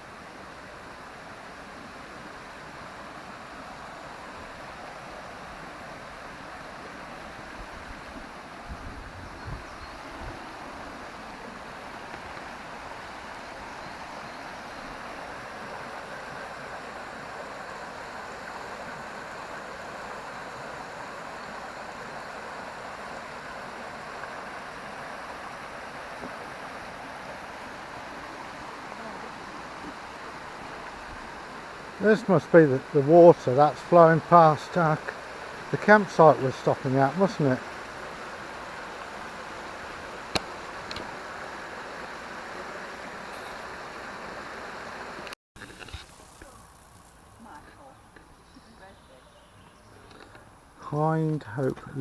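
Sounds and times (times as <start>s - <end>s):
stream water flowing: 0.0s - 52.0s.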